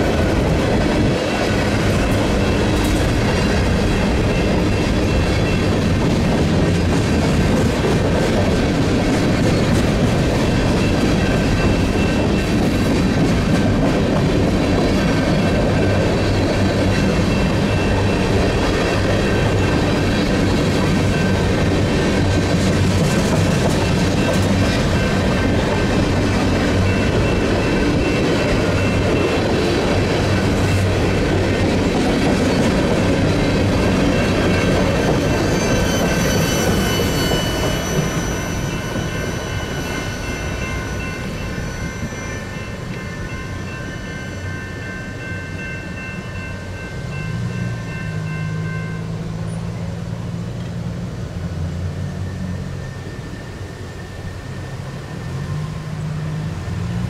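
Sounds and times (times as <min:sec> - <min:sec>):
high steady tones: 0:00.0 - 0:50.1
train wheels rumbling on rails: 0:00.0 - 0:57.0.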